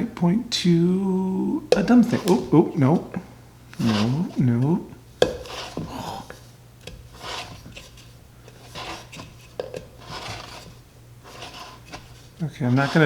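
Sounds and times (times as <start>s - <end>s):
wood scraping against wooden box: 1.8s - 13.0s.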